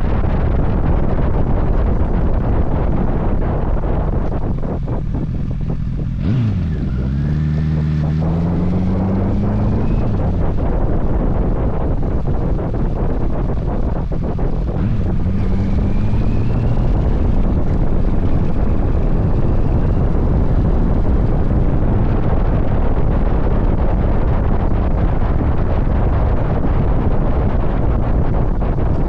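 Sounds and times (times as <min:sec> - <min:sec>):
motorcycle engine: 0:00.0 - 0:29.0
road noise: 0:00.0 - 0:29.0
wind rumbling on microphone: 0:00.0 - 0:29.0.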